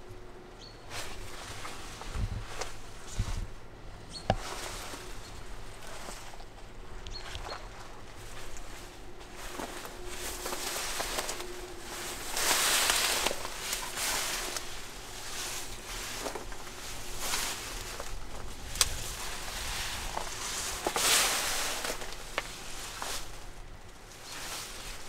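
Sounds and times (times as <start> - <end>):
footsteps through dry grass: 0.8 - 25.0.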